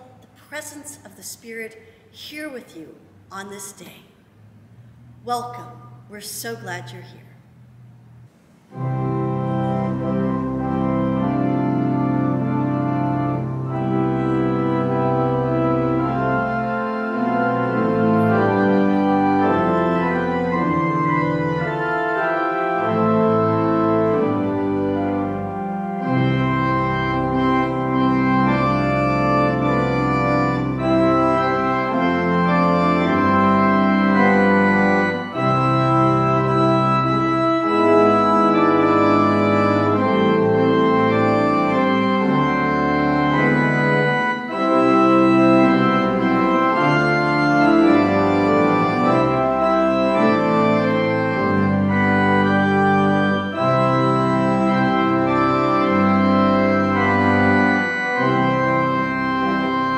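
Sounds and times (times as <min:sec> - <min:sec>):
pipe organ chords: 0:04.6 - 0:59.9.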